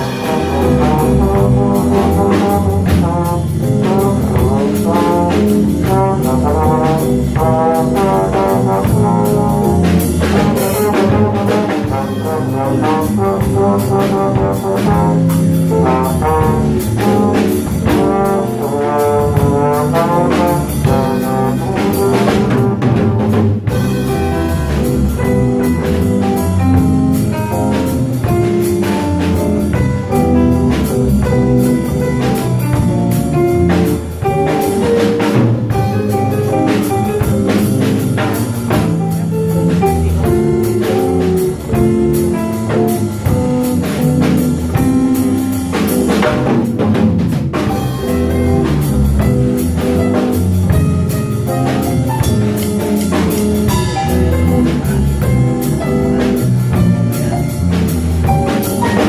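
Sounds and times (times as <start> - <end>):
bass: 0.0 - 59.0
brass horns: 0.0 - 59.0
drum kit with cymbal strokes: 0.0 - 59.0
piano: 0.0 - 59.0.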